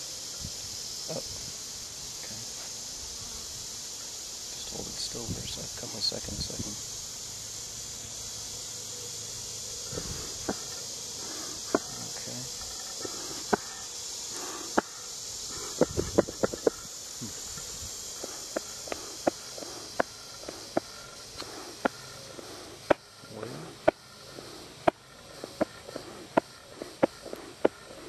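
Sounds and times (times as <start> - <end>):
high insect hiss: 0.0 - 28.0.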